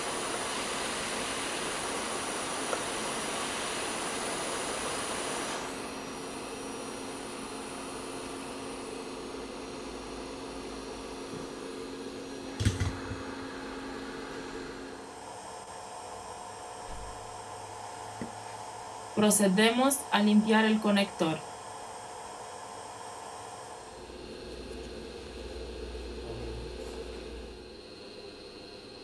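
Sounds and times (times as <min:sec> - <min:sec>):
hot air blower hissing: 0:00.0 - 0:29.0
steady low hum: 0:05.7 - 0:29.0.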